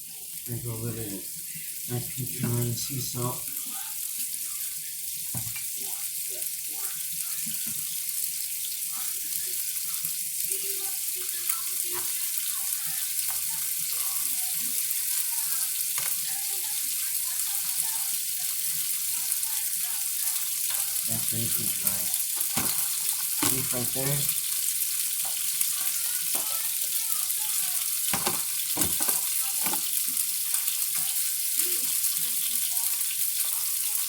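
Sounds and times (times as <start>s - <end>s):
meat sizzling in a pan: 0.0s - 34.0s.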